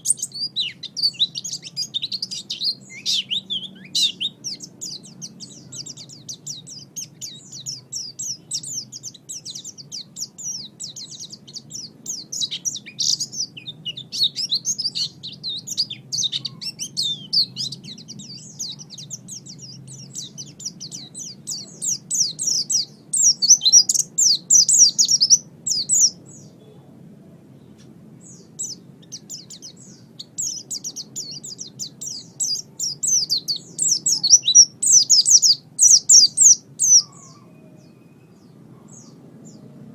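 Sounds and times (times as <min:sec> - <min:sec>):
bird twittering song: 0:00.0 - 0:26.9, 0:27.6 - 0:39.8.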